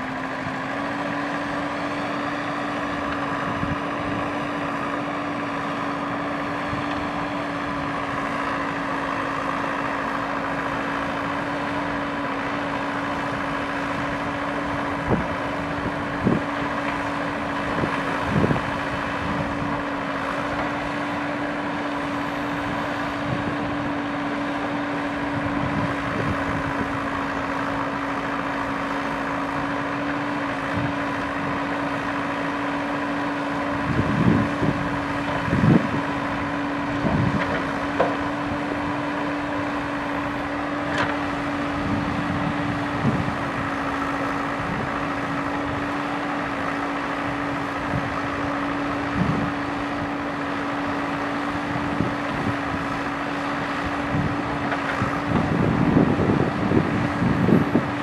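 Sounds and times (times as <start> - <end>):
backhoe diesel engine running: 0.0 - 58.0.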